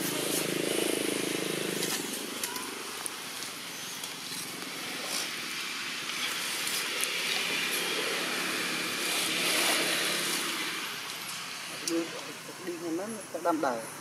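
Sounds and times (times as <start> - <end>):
vehicle engine hum: 0.0 - 13.4
outdoor background noise: 0.0 - 14.0.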